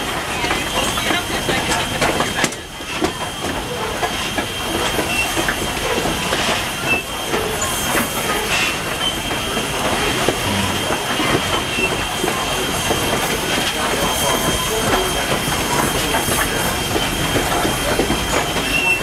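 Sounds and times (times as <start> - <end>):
steam train rumble: 0.0 - 19.0.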